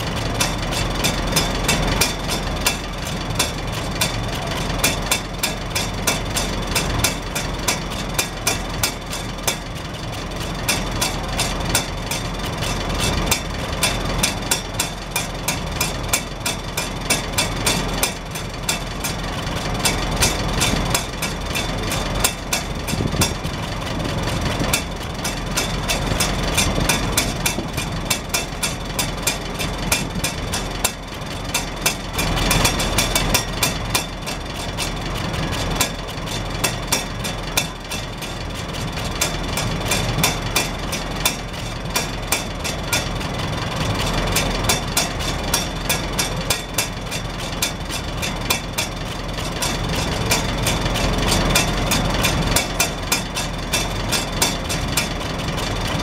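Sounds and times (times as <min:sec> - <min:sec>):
exhaust flapper tapping: 0:00.0 - 0:56.0
tractor engine idling: 0:00.0 - 0:56.0.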